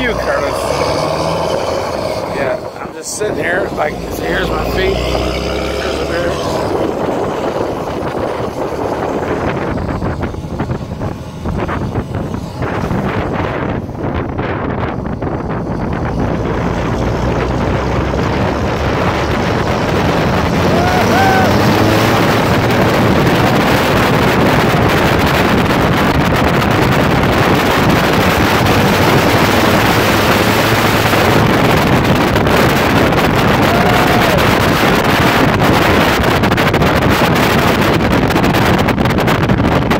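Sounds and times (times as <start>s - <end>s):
diesel engine: 0.0s - 39.9s
road noise: 0.0s - 39.9s
wind rushing over microphone: 0.0s - 39.9s.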